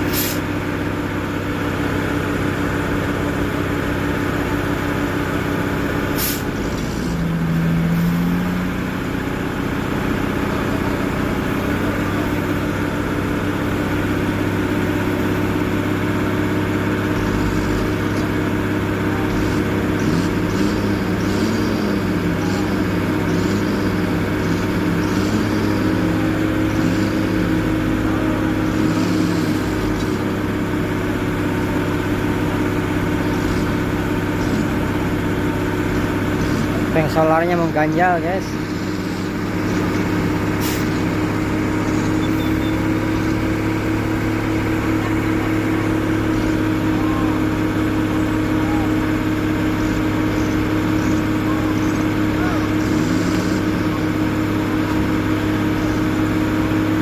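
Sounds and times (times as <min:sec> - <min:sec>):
diesel truck engines running: 0:00.0 - 0:57.0.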